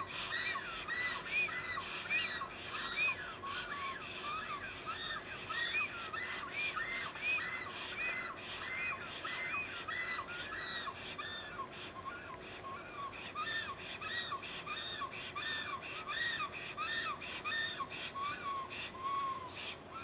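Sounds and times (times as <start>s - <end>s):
storks whistled greeting call: 0.0s - 20.0s.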